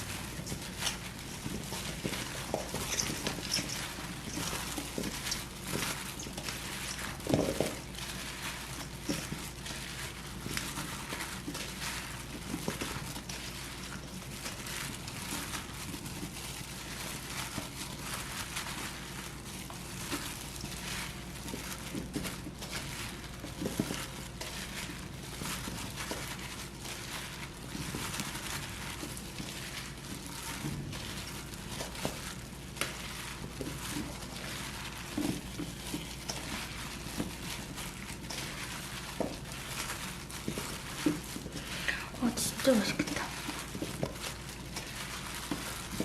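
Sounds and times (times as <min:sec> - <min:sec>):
wet crinkling of onions: 0:00.0 - 0:46.0.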